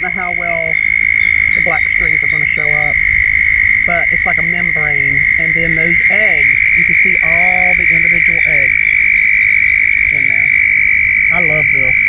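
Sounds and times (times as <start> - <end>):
toads trilling: 0.0 - 12.0.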